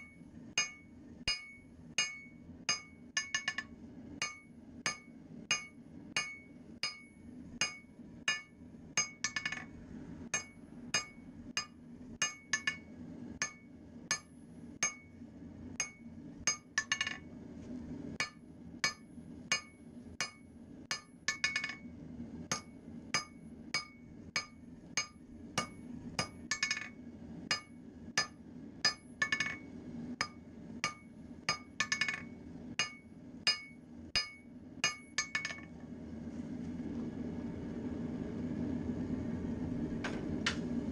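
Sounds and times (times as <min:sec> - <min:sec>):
hammer striking metal on anvil: 0:00.0 - 0:15.2, 0:15.8 - 0:17.3, 0:18.2 - 0:21.9, 0:22.5 - 0:35.7.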